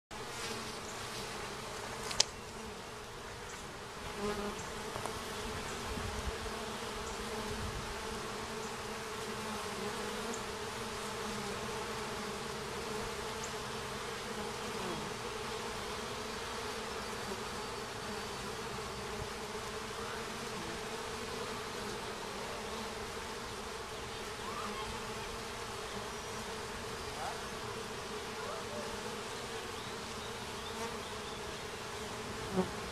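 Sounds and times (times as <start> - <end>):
bees buzzing: 0.2 - 32.9.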